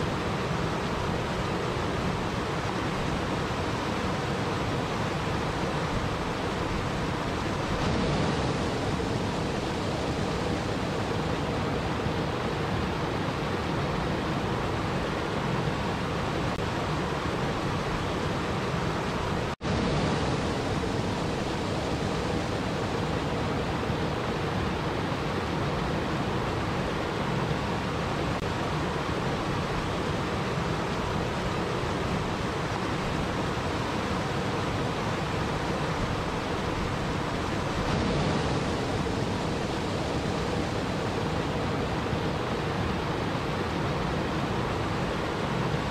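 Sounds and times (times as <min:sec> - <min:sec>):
waterfall rushing and splashing: 0:00.0 - 0:45.9.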